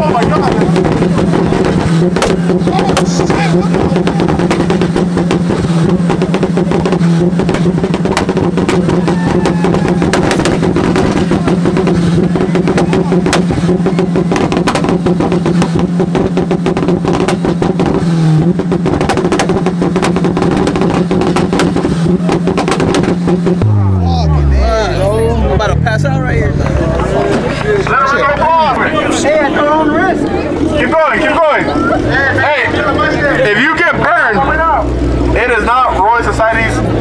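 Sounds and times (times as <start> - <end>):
car engine at high revs: 0.0 - 37.0
exhaust crackling and popping: 0.0 - 37.0.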